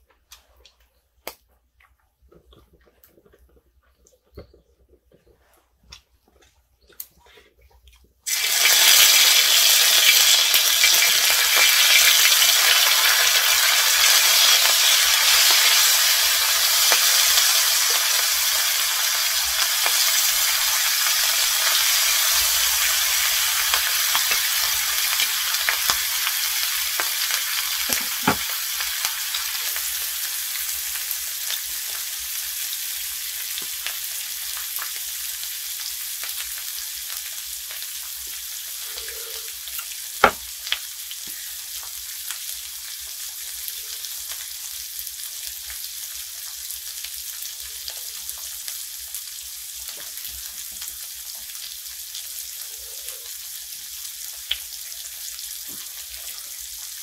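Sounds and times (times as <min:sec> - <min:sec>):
pork sizzling in a pan: 0:08.3 - 0:57.0.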